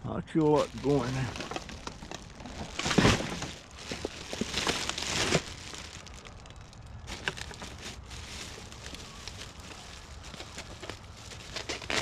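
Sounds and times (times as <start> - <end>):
trash rustling and crinkling: 0.3 - 12.0.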